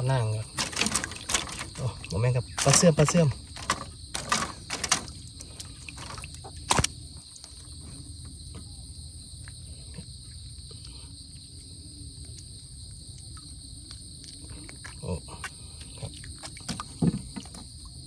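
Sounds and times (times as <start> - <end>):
insect chorus trilling: 0.0 - 18.0.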